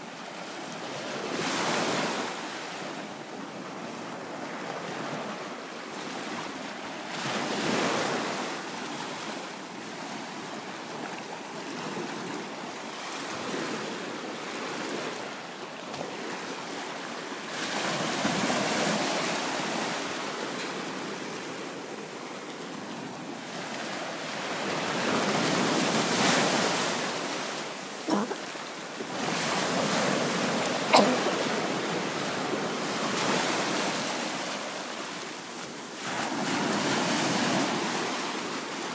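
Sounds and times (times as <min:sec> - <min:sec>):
waves washing over sand: 0:00.0 - 0:38.9.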